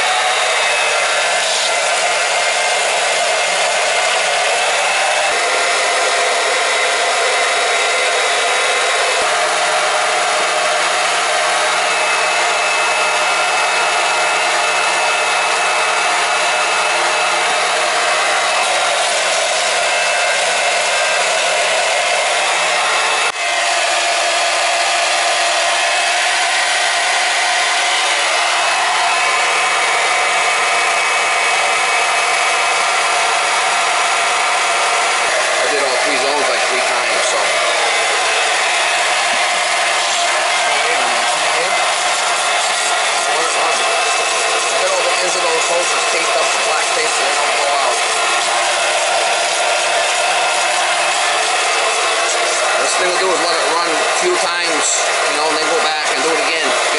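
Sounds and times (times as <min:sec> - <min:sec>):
electric pump running: 0:00.0 - 0:56.9.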